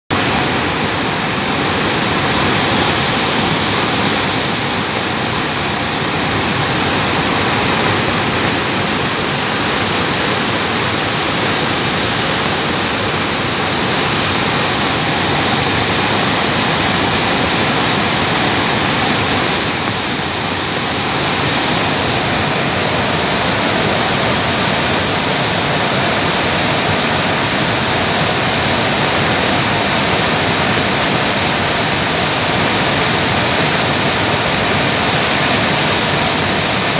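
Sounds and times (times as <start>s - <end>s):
river rushing over rocks: 0.1s - 36.9s.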